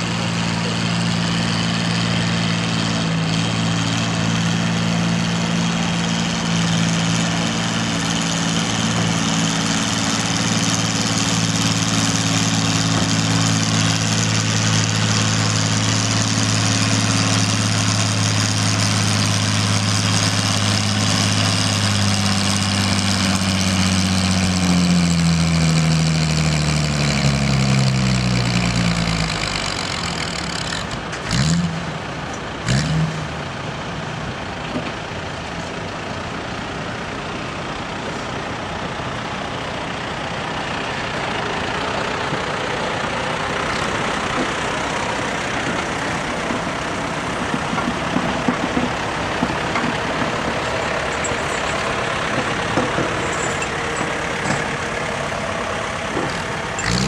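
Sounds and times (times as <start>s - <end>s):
tractor engine under load: 0.0s - 57.0s.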